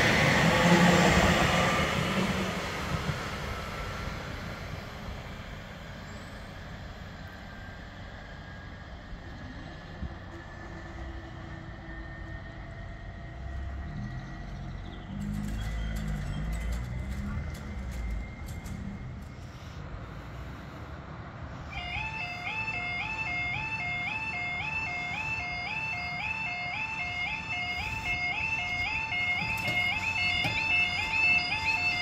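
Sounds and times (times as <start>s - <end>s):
electric train rumble: 0.0s - 32.0s
faint electric traction whine: 0.4s - 32.0s.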